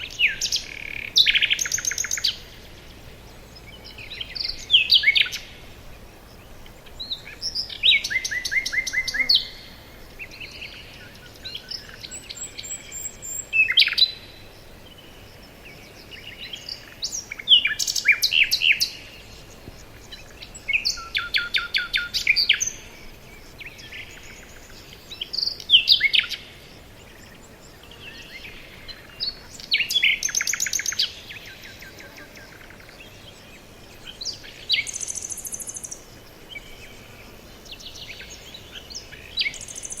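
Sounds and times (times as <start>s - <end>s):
faint bird chirps: 0.0s - 40.0s
songbird trilled song: 0.0s - 40.0s.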